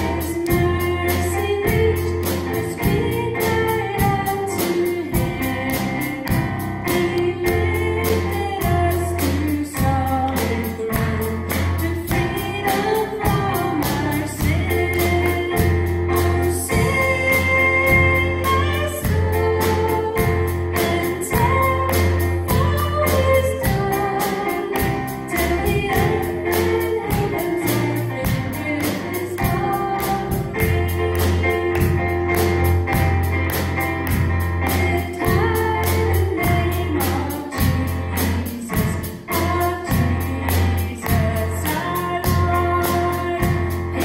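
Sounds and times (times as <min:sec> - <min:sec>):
person singing: 0:00.0 - 0:32.5, 0:34.6 - 0:44.0
bass notes: 0:00.0 - 0:44.0
keyboard: 0:00.0 - 0:44.0
steady drum beat: 0:00.0 - 0:44.0.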